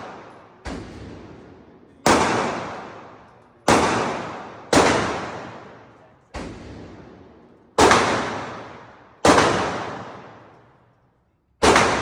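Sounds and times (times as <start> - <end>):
gunshots with long echo: 0.0 - 10.8, 11.6 - 12.0.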